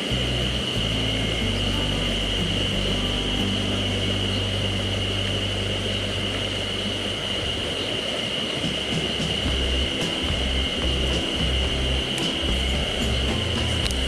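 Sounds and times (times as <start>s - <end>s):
low background music notes: 0.0s - 8.1s, 9.0s - 14.0s
high-pitched hum: 0.0s - 14.0s
mountain stream rushing: 0.0s - 14.0s.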